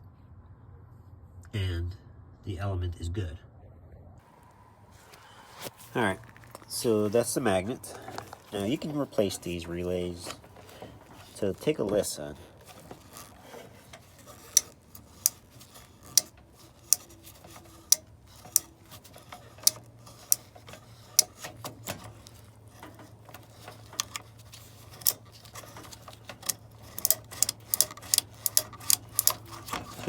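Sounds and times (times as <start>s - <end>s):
relays clicking: 5.1s - 30.0s.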